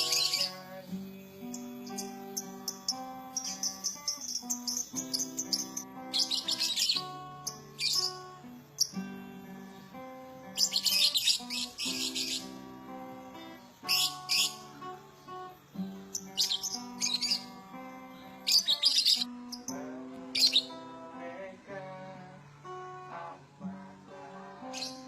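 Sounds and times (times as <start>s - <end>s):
high bird chirping: 0.0s - 20.8s
plucked acoustic guitar music: 0.0s - 25.0s.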